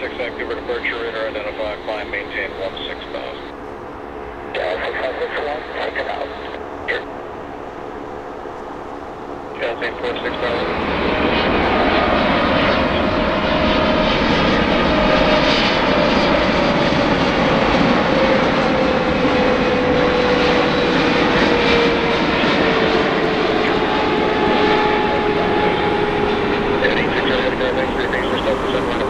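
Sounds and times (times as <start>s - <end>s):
jet airliner roar and whine: 0.0s - 29.0s.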